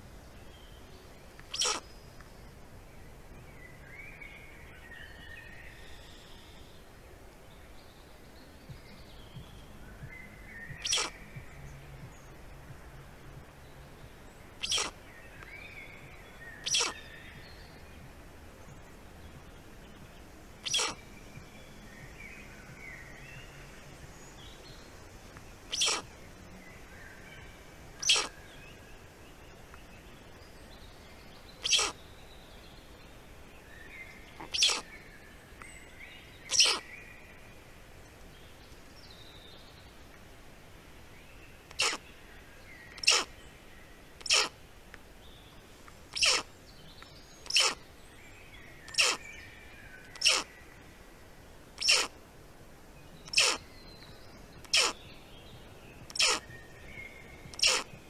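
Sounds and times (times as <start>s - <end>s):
faint songbird chirping: 0.0s - 58.0s.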